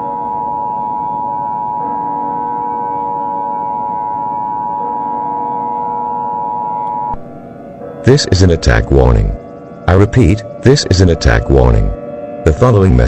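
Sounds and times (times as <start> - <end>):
two-tone electronic alarm: 0.0 - 13.0.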